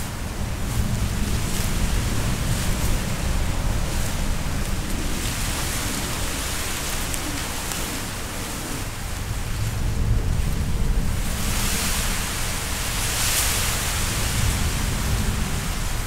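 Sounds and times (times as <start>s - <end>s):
gusts rumbling on microphone: 0.0s - 16.0s
wind blowing hard: 0.0s - 16.0s.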